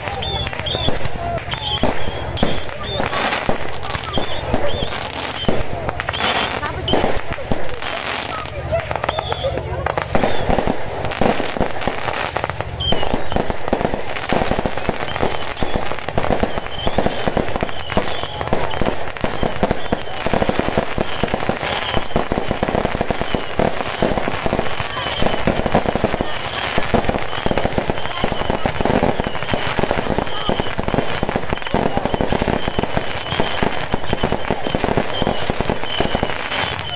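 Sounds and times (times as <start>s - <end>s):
fireworks crackling: 0.0s - 36.9s.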